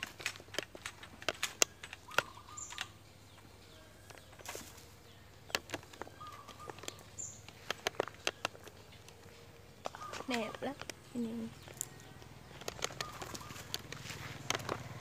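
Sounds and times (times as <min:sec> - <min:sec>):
sharp clicks and taps: 0:00.0 - 0:04.7, 0:05.4 - 0:15.0
small birds chirping: 0:00.0 - 0:15.0.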